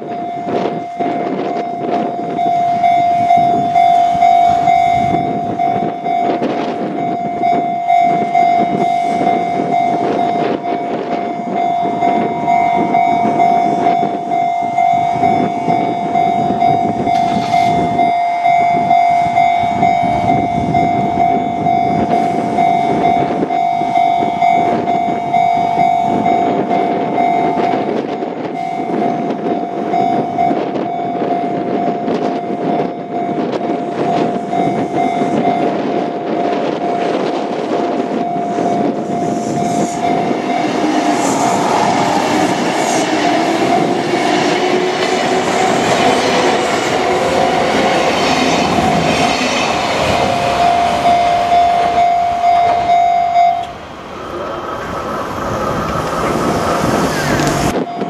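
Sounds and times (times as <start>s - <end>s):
level crossing alarm ringing: 0.0s - 53.9s, 56.6s - 58.0s
train running slowly: 0.0s - 58.0s.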